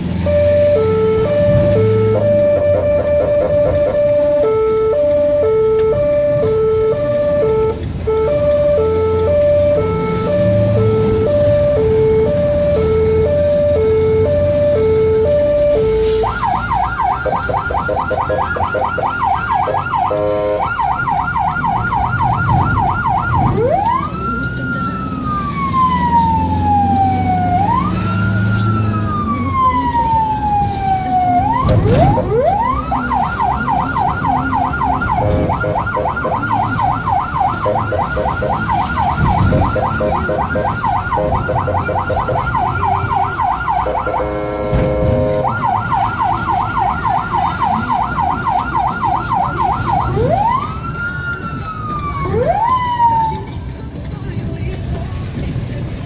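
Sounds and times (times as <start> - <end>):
ambulance siren: 0.0 - 54.0
van engine and road noise: 0.0 - 56.0.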